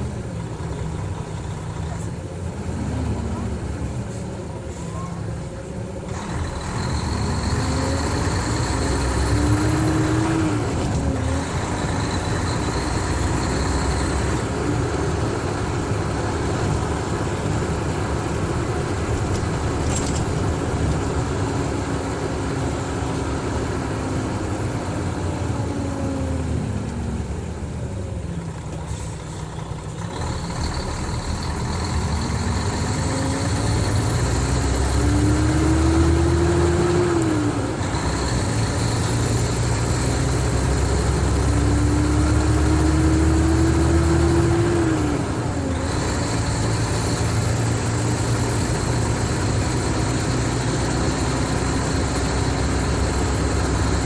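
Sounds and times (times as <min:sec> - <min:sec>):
coach engine running: 0:00.0 - 0:54.0.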